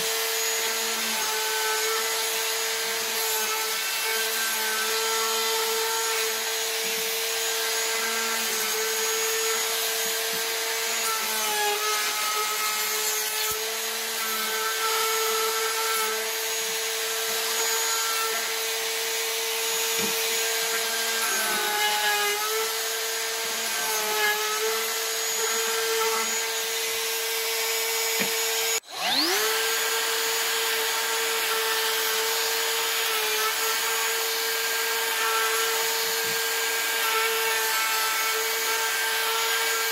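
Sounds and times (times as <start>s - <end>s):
trim router cutting wood: 0.0s - 39.9s.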